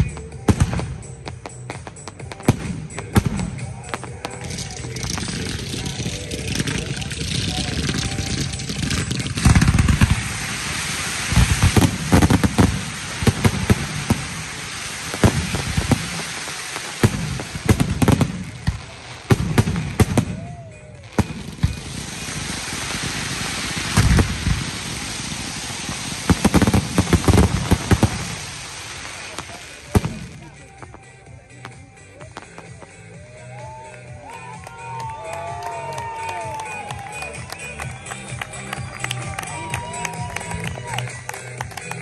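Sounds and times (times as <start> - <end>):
firework crackling: 0.0 - 42.0.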